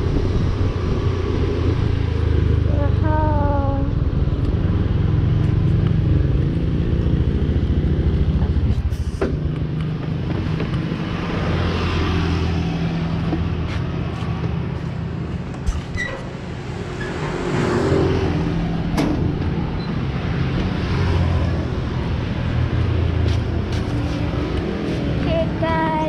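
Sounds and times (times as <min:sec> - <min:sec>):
vehicles passing: 0:00.0 - 0:26.0.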